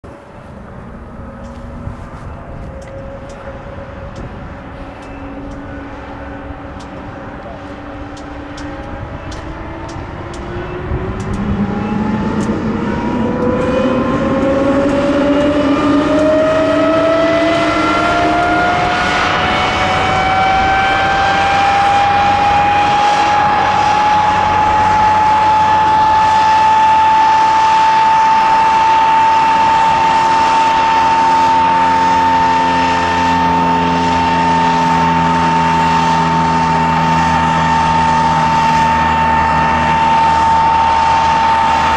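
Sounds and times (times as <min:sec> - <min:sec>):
jet engine whine starting up: 0:00.1 - 0:41.9.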